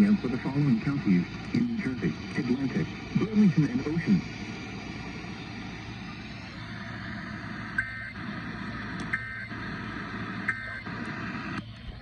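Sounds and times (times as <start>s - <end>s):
broadcast hiss and hum: 0.0s - 12.0s.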